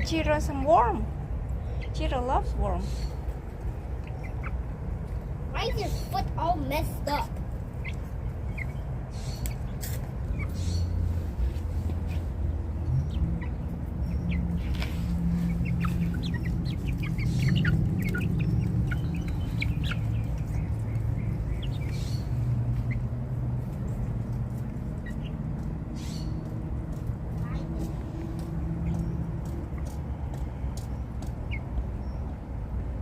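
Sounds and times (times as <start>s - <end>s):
chickens clucking: 1.5s - 32.4s.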